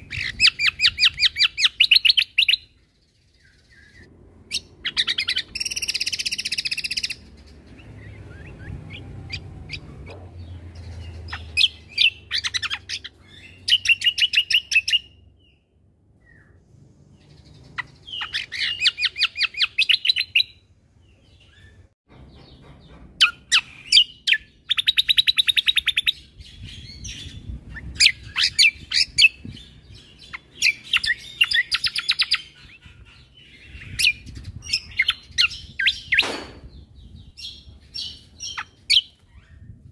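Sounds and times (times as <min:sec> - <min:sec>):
songbird trilling: 0:00.0 - 0:02.8, 0:03.4 - 0:15.6, 0:17.2 - 0:20.6, 0:23.2 - 0:39.8.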